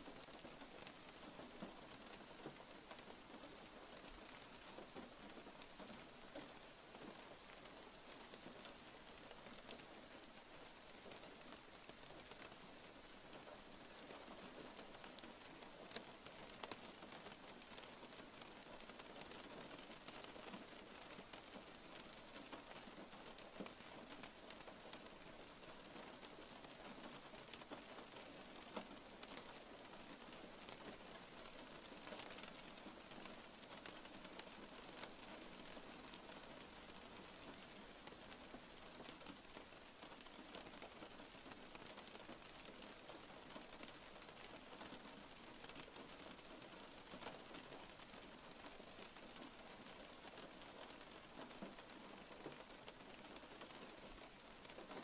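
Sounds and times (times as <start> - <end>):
faint steady rain: 0.0 - 55.0.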